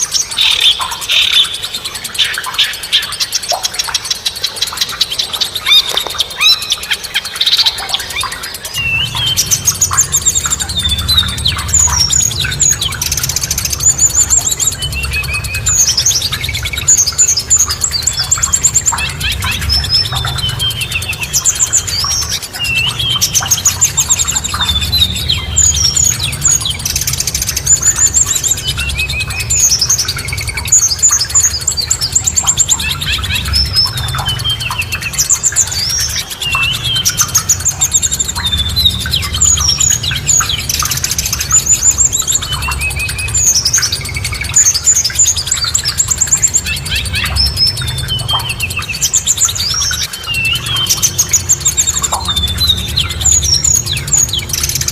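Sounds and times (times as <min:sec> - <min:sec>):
songbirds chirping and singing: 0:00.0 - 0:54.9
steady low rumble: 0:08.6 - 0:54.9.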